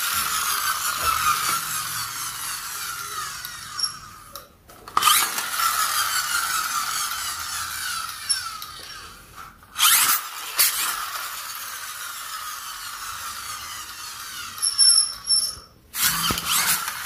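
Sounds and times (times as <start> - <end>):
toy car click: 0.0 - 17.0
toy car motor whining: 0.0 - 17.0.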